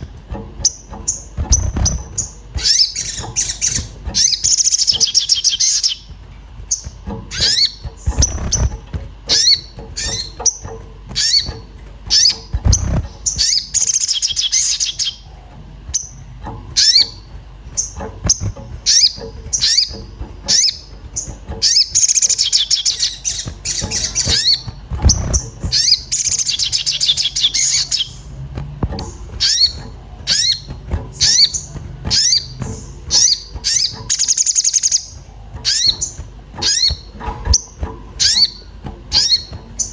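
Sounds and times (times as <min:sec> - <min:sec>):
bird sharp rapid chirps: 0:00.0 - 0:28.3, 0:29.0 - 0:39.9.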